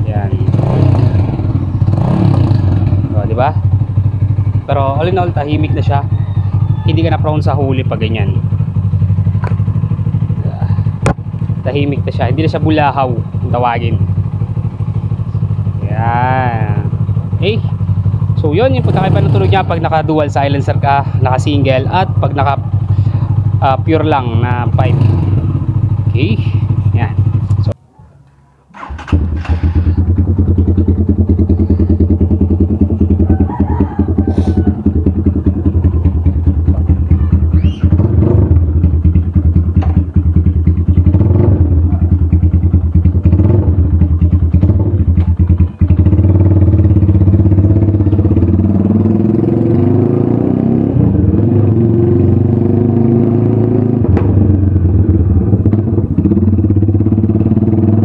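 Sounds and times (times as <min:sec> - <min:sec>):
motorcycle engine running: 0:00.0 - 0:27.8, 0:28.7 - 0:58.0
motorcycle throttle blips: 0:00.2 - 0:20.9, 0:21.5 - 0:58.0.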